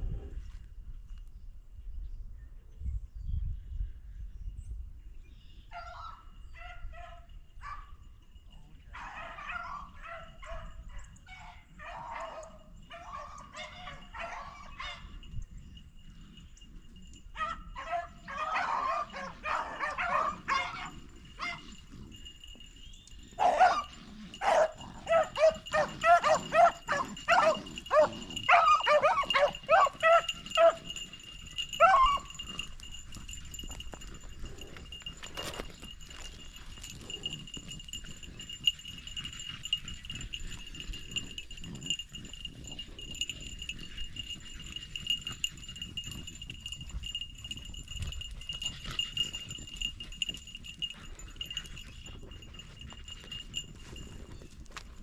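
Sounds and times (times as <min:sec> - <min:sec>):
dogs baying: 0:09.0 - 0:15.3, 0:16.1 - 0:54.0.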